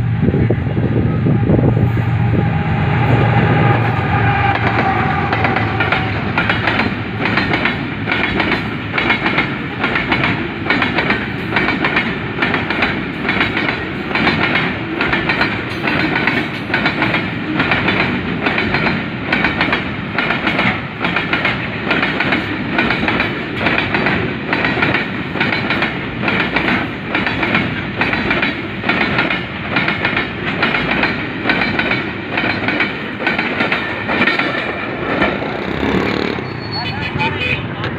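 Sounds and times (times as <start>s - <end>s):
train wheels clickety-clack: 4.4s - 37.0s.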